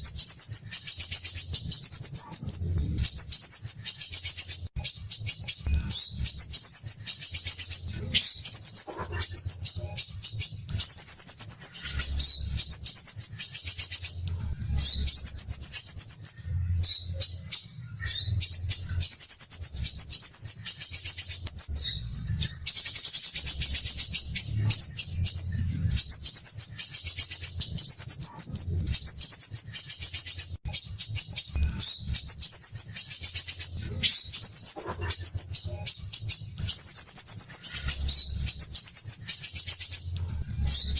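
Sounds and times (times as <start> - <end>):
bird singing high trills: 0.0 - 40.9.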